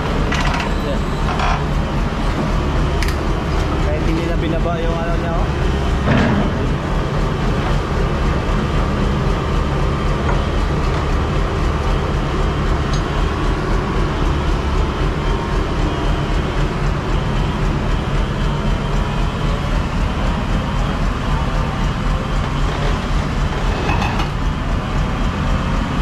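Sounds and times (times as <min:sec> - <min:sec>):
excavator diesel engine droning: 0:00.0 - 0:26.0.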